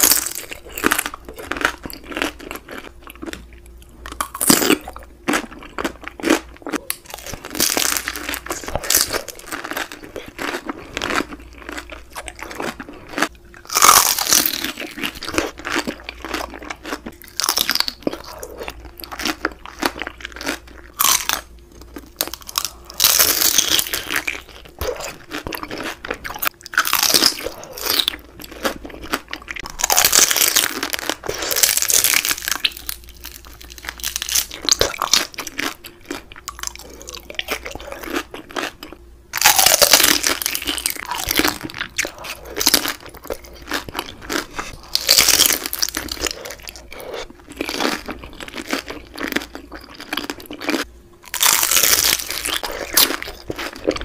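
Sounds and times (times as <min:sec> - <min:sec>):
loud crackly crunching bites: 0:00.0 - 0:54.0.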